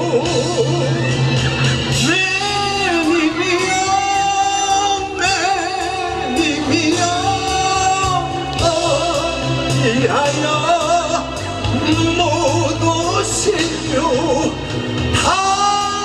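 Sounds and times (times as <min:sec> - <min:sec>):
man singing with vibrato: 0:00.0 - 0:01.2, 0:01.9 - 0:16.0
backing track music: 0:00.0 - 0:16.0.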